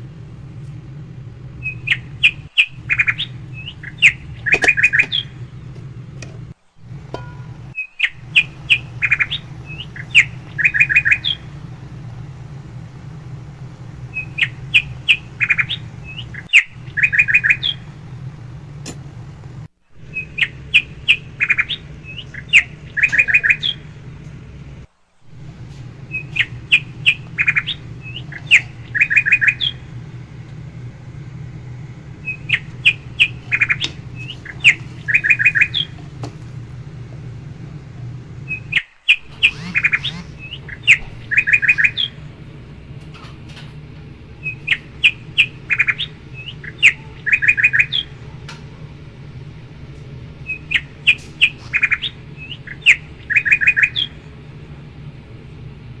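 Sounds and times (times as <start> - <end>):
birds chirping and trilling: 0.0 - 18.8, 20.0 - 24.8, 25.4 - 54.4
steady low hum: 0.0 - 56.0.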